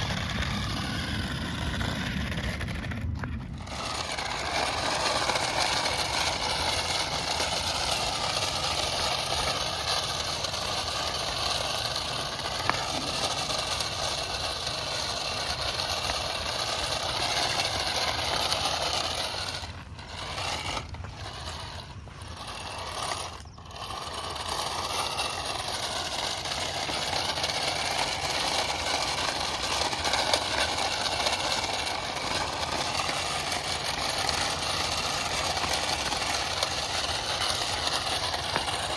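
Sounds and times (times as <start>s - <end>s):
plastic wheels rattling: 0.0s - 38.9s
small electric motors whining: 0.0s - 38.9s.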